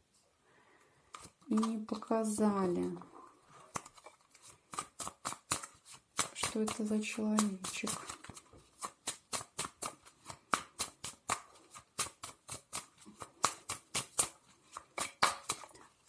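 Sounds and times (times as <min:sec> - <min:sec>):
cards being shuffled: 0:01.1 - 0:03.1, 0:03.7 - 0:16.0.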